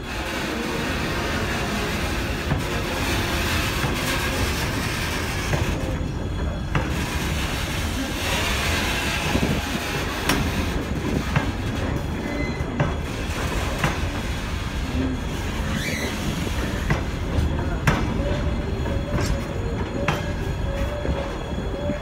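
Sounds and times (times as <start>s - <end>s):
steel wheels rumbling on track: 0.0s - 22.0s.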